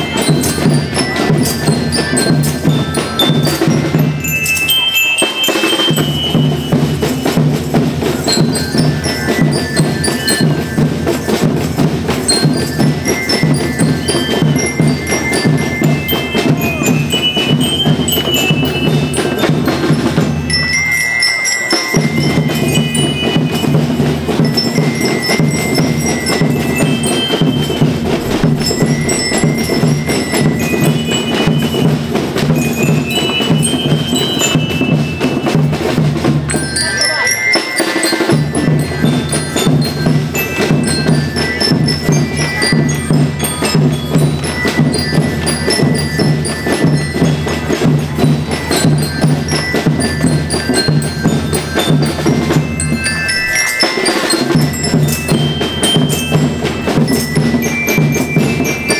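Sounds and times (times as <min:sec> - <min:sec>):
steady drum beat: 0:00.0 - 0:21.0, 0:21.8 - 0:58.9
bell-like mallet notes: 0:00.0 - 0:58.9.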